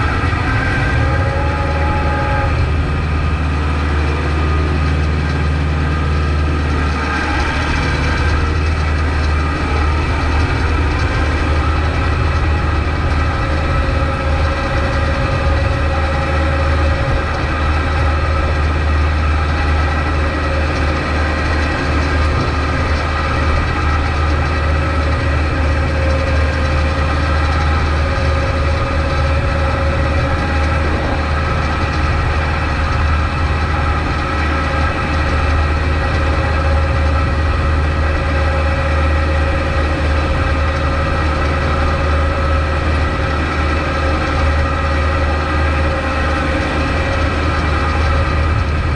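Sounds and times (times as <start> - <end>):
high-pitched whine: 0.0 - 48.9
tractor diesel engine running: 0.0 - 48.9.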